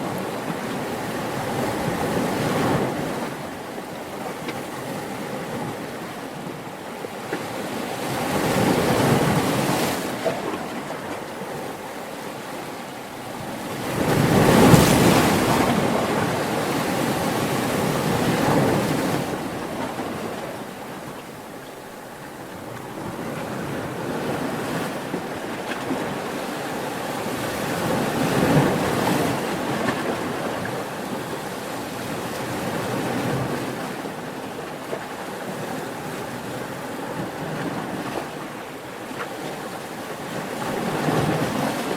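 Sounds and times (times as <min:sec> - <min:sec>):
ocean waves surf: 0:00.0 - 0:41.9.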